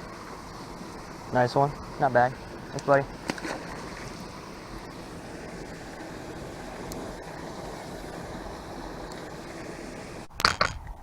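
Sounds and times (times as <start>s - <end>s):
moving water: 0.0s - 10.3s
wind: 0.0s - 11.0s.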